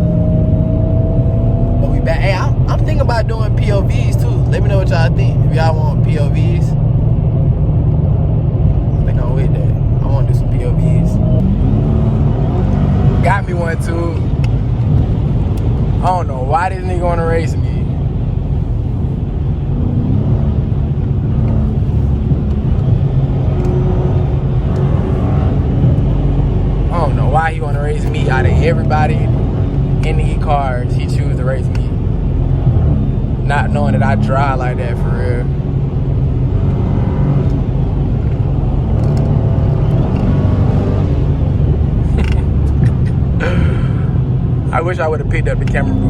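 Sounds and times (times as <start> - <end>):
car engine rumble: 0.0 - 46.0
road noise inside car: 0.0 - 46.0.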